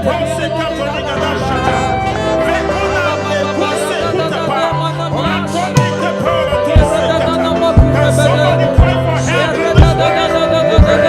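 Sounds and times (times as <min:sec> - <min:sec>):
slow instrumental worship music: 0:00.0 - 0:11.0
voices praying aloud: 0:00.0 - 0:11.0.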